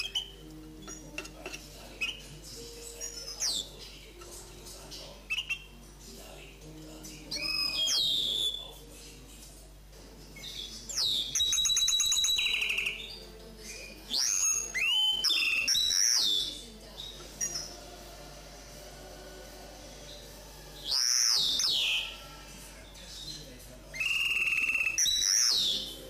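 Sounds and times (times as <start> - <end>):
songbird singing: 0.0 - 9.3, 10.3 - 26.0.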